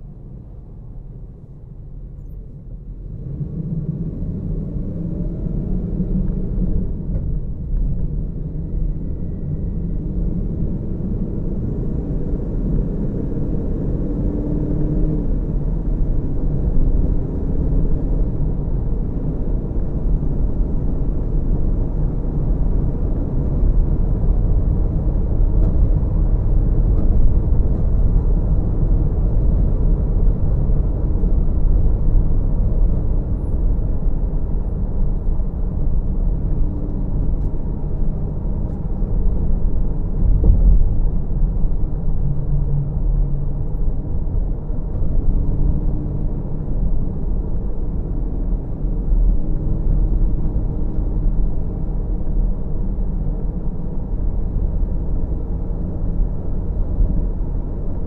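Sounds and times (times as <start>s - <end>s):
car driving rumble from inside: 0.0s - 58.0s.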